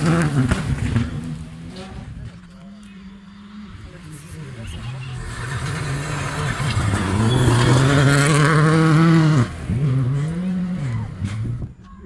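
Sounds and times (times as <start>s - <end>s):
rally car engine revving: 0.0s - 11.8s.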